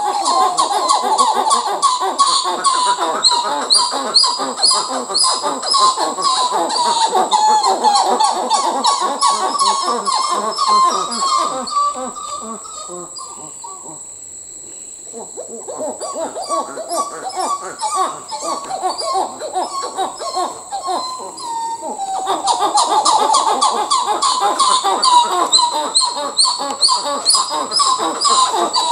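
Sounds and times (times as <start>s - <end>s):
monkeys calling: 0.0s - 14.2s, 15.1s - 28.9s.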